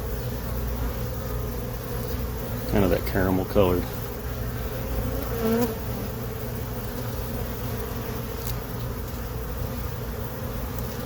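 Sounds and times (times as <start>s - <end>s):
bee passing close: 0.0s - 11.0s
bees buzzing: 0.0s - 11.0s.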